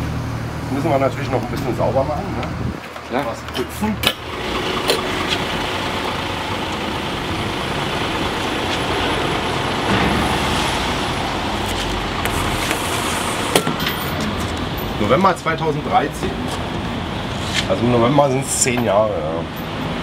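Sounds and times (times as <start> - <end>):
bus engine running: 0.0 - 18.1
traffic noise: 0.0 - 20.0.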